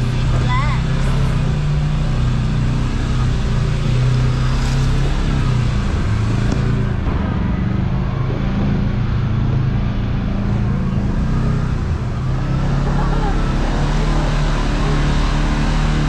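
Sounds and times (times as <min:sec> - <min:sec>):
utility vehicle engine running: 0:00.0 - 0:16.0
rushing noise: 0:02.8 - 0:16.0.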